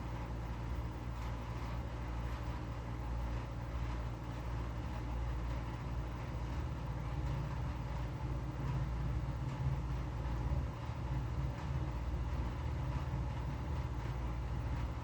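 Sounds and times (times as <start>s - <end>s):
air conditioner running: 0.0s - 15.0s
ceiling fan motor hum: 0.0s - 15.0s.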